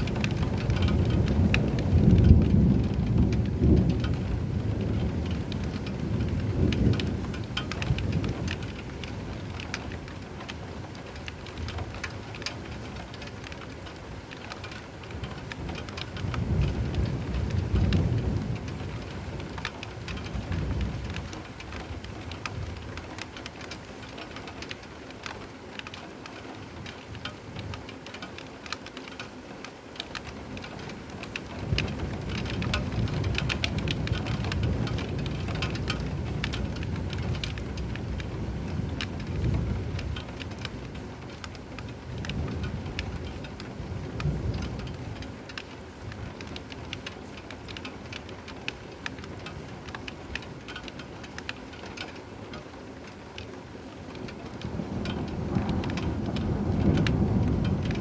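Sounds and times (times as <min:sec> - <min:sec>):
low rolling thunder: 0:00.0 - 0:23.3, 0:30.4 - 0:51.1, 0:54.0 - 0:58.0
rain falling: 0:00.0 - 0:58.0.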